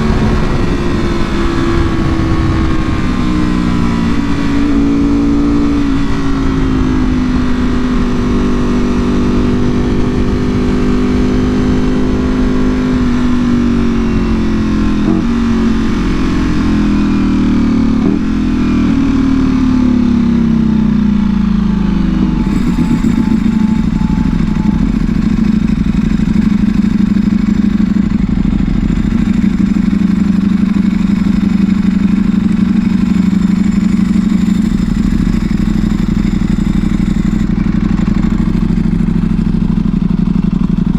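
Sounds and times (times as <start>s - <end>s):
engine revving blips: 0.0s - 40.9s
motorcycle engine: 0.0s - 40.9s.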